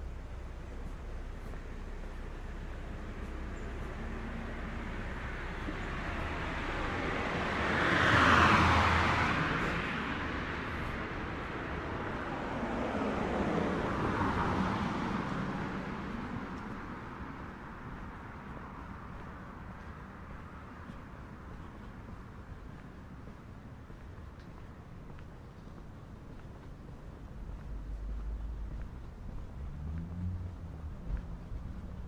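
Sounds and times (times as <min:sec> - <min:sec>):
road traffic: 0:00.0 - 0:32.0
vehicles driving past: 0:00.0 - 0:32.0.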